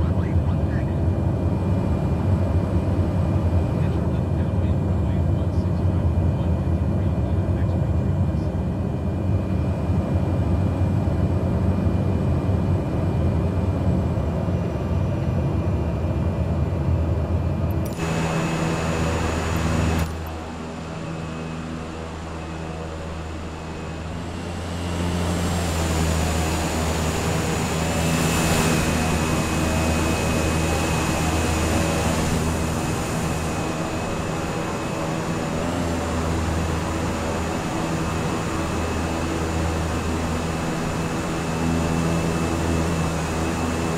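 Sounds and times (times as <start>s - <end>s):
light aircraft engine droning: 0.0s - 43.9s.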